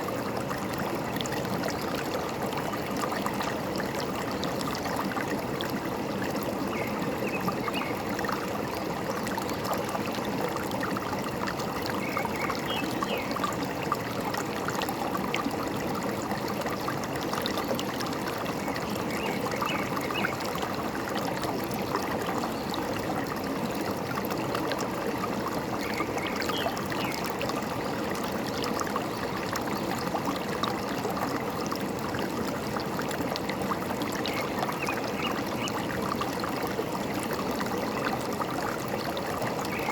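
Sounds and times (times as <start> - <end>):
stream running and trickling: 0.0 - 39.9.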